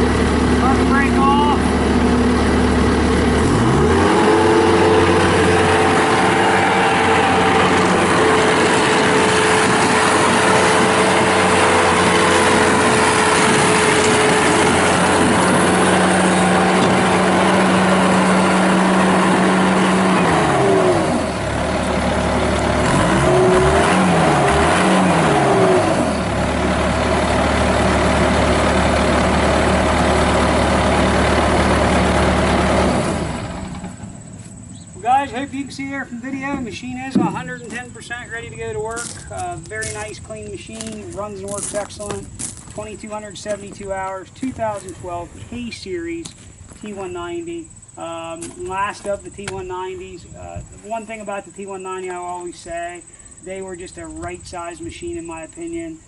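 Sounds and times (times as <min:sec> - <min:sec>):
diesel engine revving and idling: 0:00.0 - 0:56.0.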